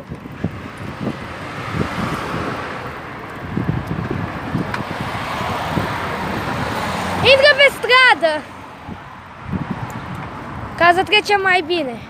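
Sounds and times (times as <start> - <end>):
road traffic rushing by: 0.0 - 12.0
wind buffeting microphone: 0.0 - 12.0.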